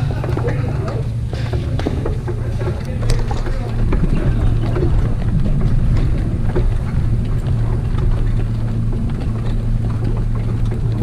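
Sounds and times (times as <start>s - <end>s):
steady low hum: 0.0s - 11.0s
wind buffeting microphone: 0.0s - 11.0s.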